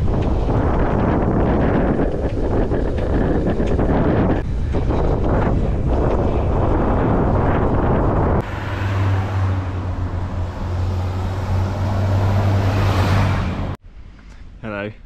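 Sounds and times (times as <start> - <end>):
wind rushing over microphone: 0.0 - 13.8.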